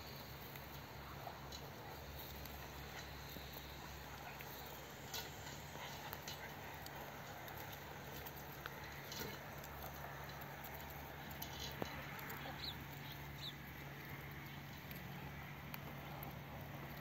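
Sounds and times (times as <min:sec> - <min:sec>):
birds pecking ground: 0:00.0 - 0:17.0.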